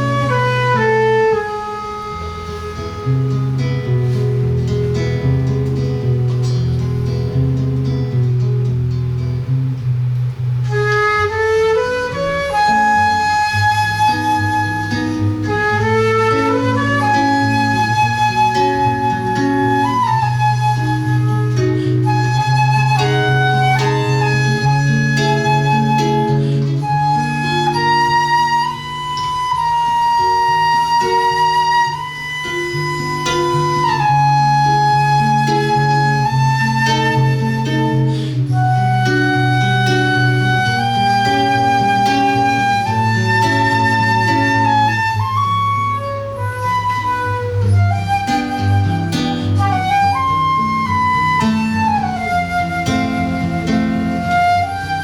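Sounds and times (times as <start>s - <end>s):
flute melody: 0.0s - 55.0s
plucked guitar chords: 0.0s - 55.0s.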